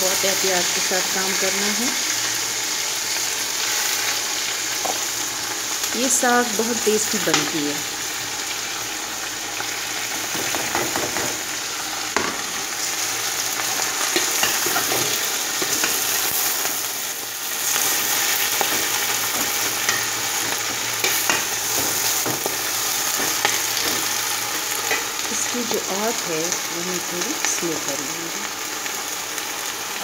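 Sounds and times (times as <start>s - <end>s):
greens sizzling in hot oil: 0.0s - 30.0s.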